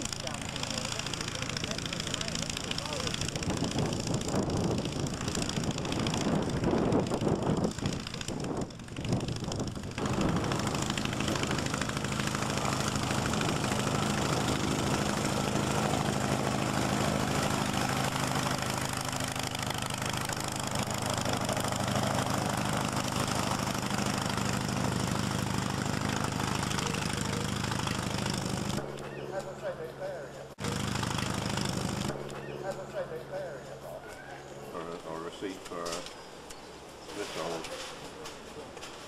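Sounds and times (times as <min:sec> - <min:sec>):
small piston engine idling: 0:00.0 - 0:35.2.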